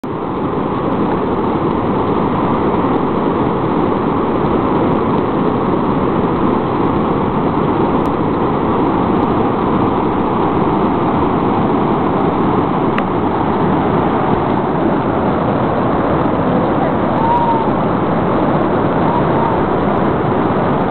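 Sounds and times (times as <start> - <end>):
river rapids roaring: 0.1 - 20.9.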